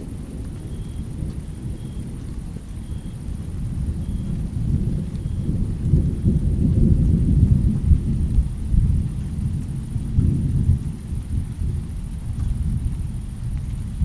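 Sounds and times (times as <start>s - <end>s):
rainstorm rumble: 0.0s - 14.0s.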